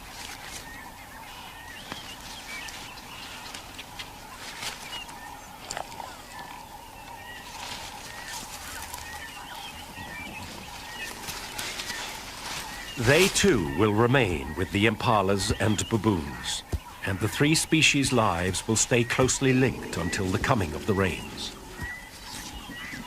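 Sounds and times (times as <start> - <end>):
birds chirping: 0.0 - 23.0
foliage cracking and rustling: 0.0 - 23.0
steady faint hum: 0.0 - 23.0.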